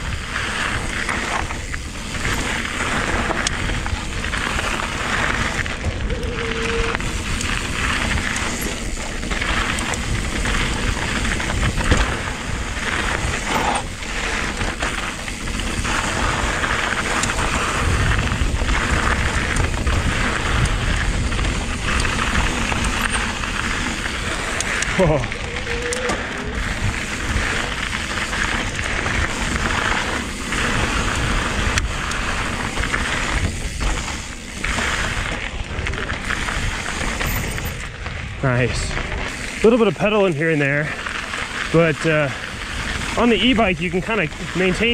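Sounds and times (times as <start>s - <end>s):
bike tyres crunching on gravel: 0.0s - 44.9s
bike knocking over rough ground: 0.4s - 39.4s.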